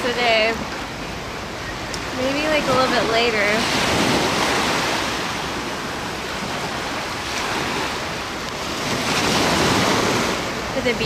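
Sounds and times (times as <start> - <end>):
waves washing up beach: 0.0 - 11.0
wind buffeting microphone: 0.0 - 11.0.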